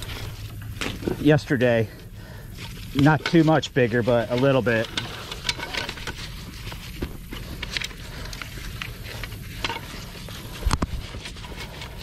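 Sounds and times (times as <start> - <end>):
rustle of dry leaves and twigs: 0.0 - 12.0.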